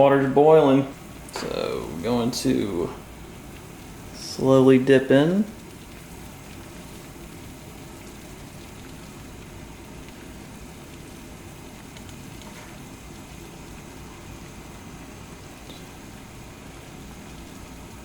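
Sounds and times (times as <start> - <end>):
water boiling in a pot: 0.0 - 18.0.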